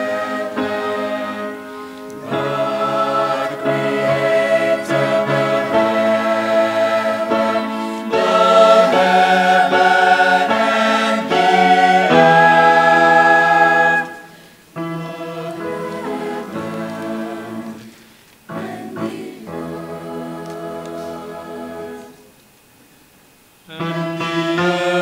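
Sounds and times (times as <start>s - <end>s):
choir singing a hymn: 0.0s - 22.4s, 23.7s - 25.0s.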